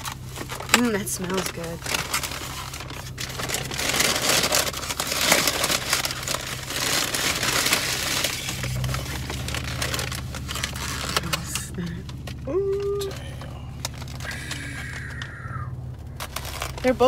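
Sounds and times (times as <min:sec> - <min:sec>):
paper bag rustling: 0:00.0 - 0:15.3, 0:15.9 - 0:17.0
steady low hum: 0:00.0 - 0:17.0.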